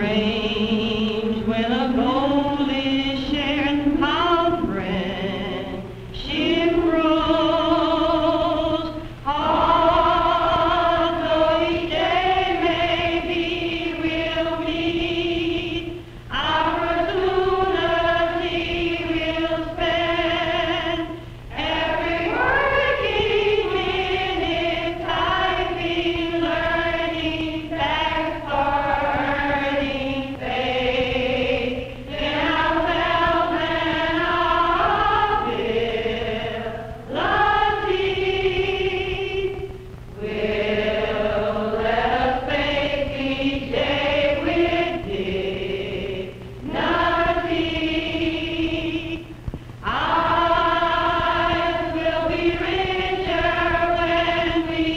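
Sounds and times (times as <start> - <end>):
steady low hum: 0.0 - 54.9
women's choir singing: 0.0 - 54.9.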